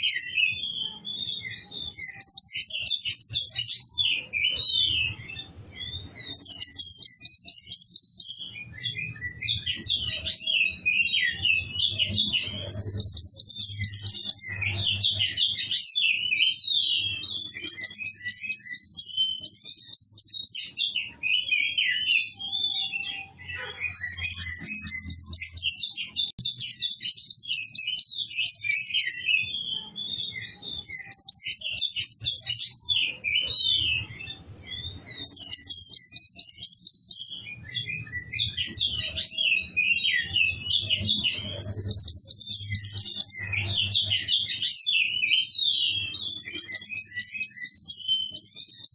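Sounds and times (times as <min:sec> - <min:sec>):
songbird trilling and chirping: 0:00.0 - 0:48.9.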